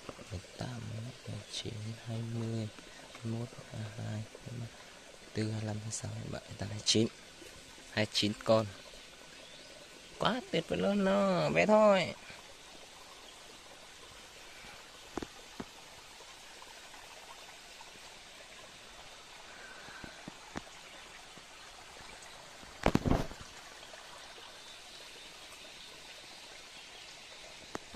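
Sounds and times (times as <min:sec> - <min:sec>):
water trickling: 0:00.0 - 0:27.9.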